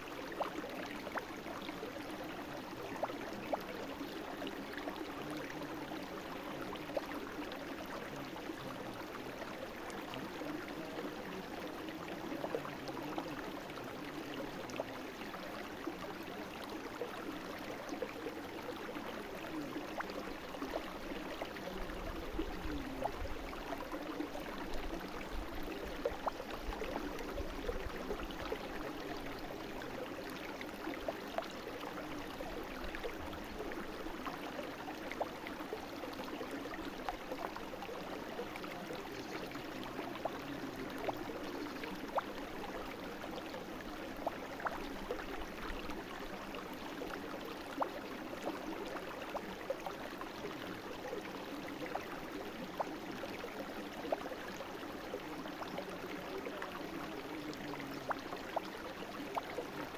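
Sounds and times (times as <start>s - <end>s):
brook water babbling: 0.0s - 59.9s.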